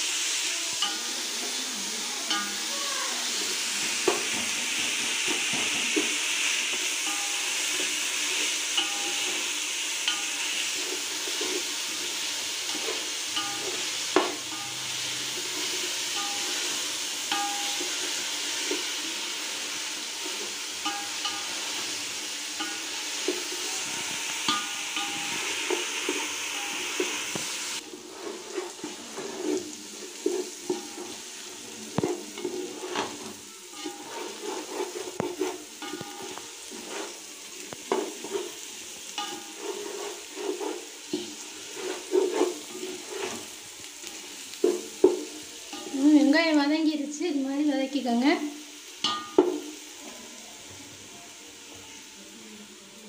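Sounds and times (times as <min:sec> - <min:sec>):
food sizzling in hot oil: 0:00.0 - 0:53.0
spatula scraping a metal pot: 0:02.3 - 0:46.2.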